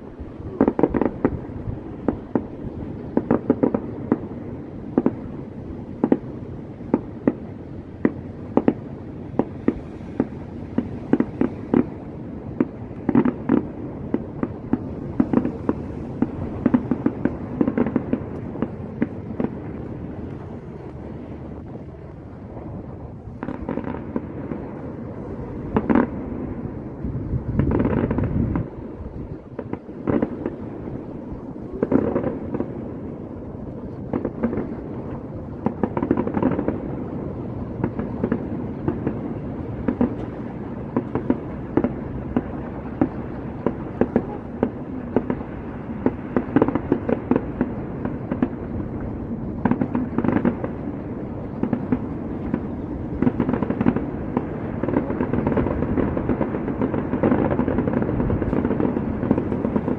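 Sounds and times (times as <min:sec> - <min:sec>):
fireworks bangs and crackling: 0:00.0 - 0:59.9
low background noise: 0:00.0 - 0:59.9.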